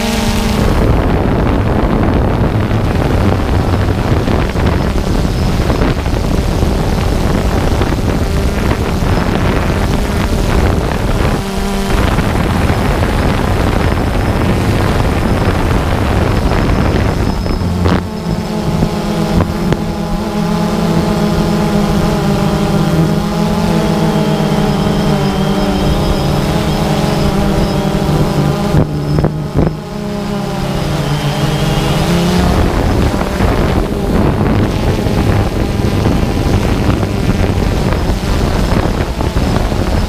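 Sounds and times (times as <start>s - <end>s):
drone motors humming: 0.0s - 40.0s
wind noise on microphone: 0.0s - 40.0s.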